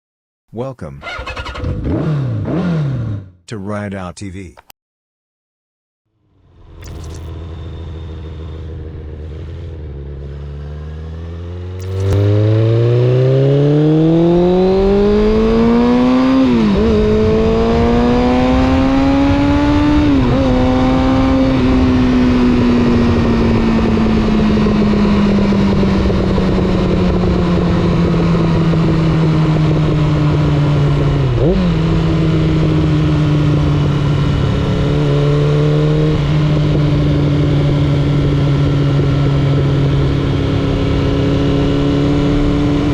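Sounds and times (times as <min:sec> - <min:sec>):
motorcycle engine revving: 0:01.1 - 0:03.4, 0:06.3 - 0:42.9.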